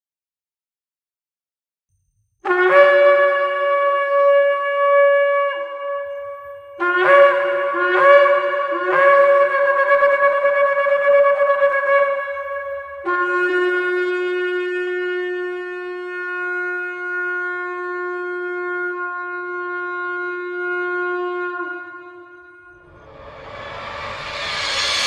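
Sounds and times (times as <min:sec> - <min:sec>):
shofar blowing: 0:02.4 - 0:25.0.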